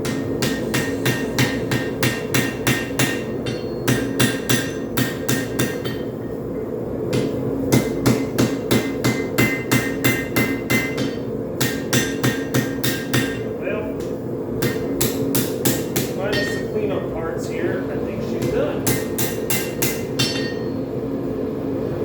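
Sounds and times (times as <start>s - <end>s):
hammer striking metal on anvil: 0.0s - 16.8s, 18.3s - 20.8s.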